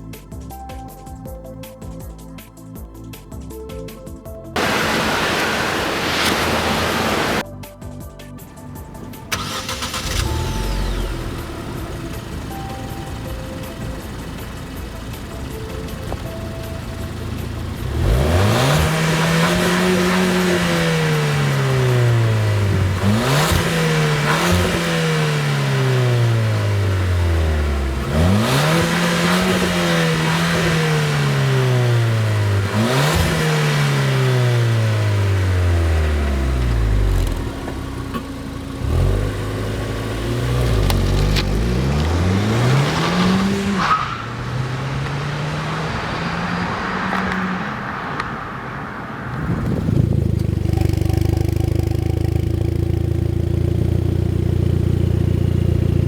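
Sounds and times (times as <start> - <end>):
car engine and exhaust while driving: 4.4 - 7.5, 8.5 - 56.0.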